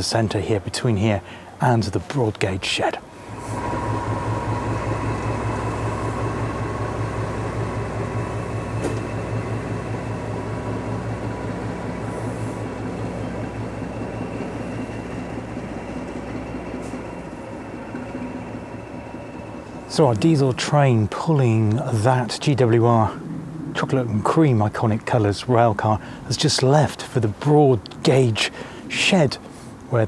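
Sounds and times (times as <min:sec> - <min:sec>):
diesel locomotive engine drone: 0:00.0 - 0:30.0
faint engine whine: 0:00.0 - 0:30.0.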